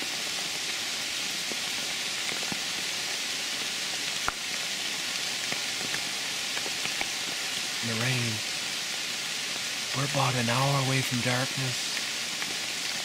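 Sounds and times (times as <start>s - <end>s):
pouring rain: 0.0s - 13.0s.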